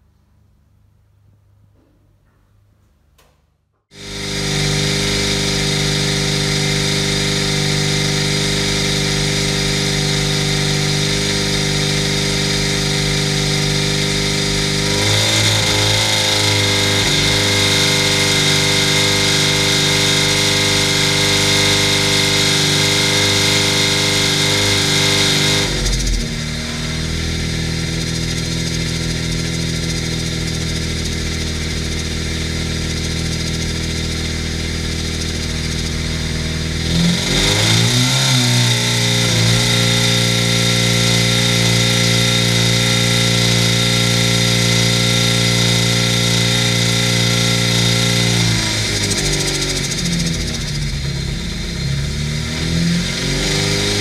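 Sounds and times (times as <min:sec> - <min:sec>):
engine running: 0:03.9 - 0:54.0
supercharger whine: 0:03.9 - 0:54.0.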